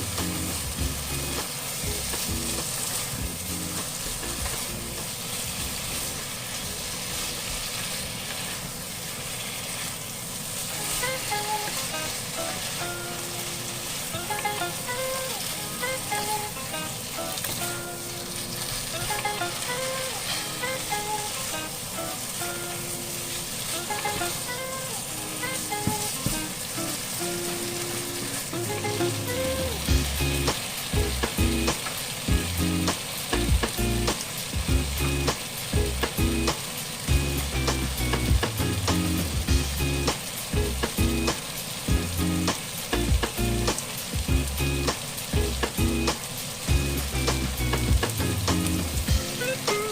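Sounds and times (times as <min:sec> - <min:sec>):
meat sizzling in hot oil: 0:00.0 - 0:49.9.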